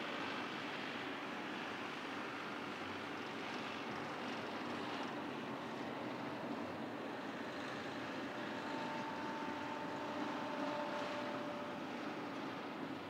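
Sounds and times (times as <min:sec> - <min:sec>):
freight train rolling on rails: 0:00.2 - 0:13.0.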